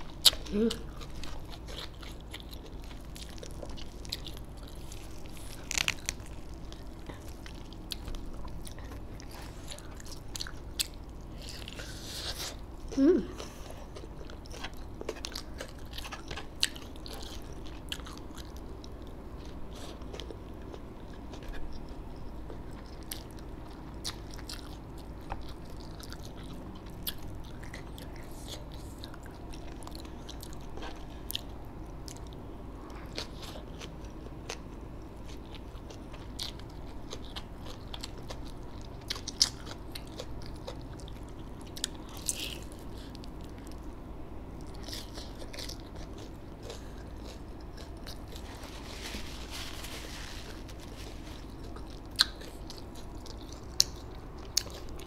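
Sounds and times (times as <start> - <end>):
person chewing crunchy food: 0.0 - 43.9, 44.5 - 55.0
steady low hum: 0.0 - 55.0.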